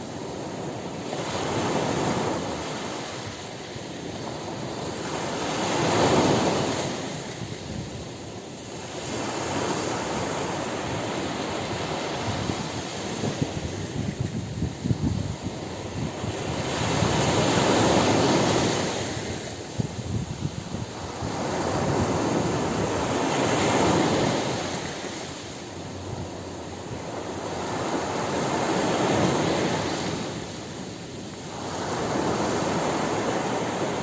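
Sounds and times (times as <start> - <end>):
waves washing onto beach: 0.0 - 34.0.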